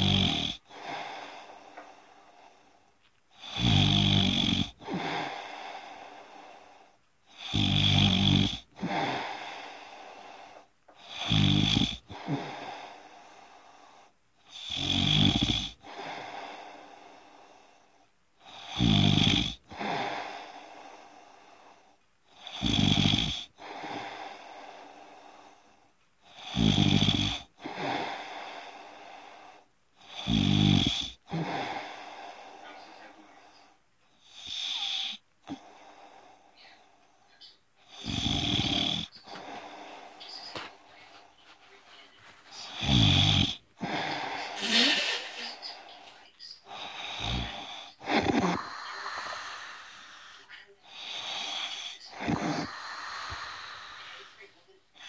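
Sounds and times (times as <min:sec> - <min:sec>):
person snoring: 0:00.0 - 0:02.5, 0:03.3 - 0:13.9, 0:14.5 - 0:25.6, 0:26.3 - 0:37.0, 0:37.8 - 0:41.3, 0:42.2 - 0:55.0.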